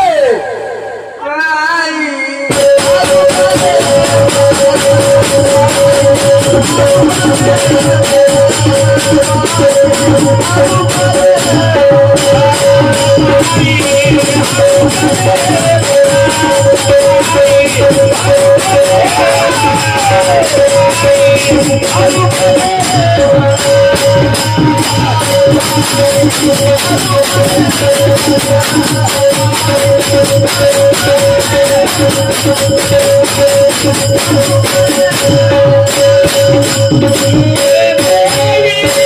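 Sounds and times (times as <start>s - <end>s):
person singing: 0.0s - 39.0s
jingling percussion: 2.5s - 39.0s
regular drum beat: 2.5s - 39.0s.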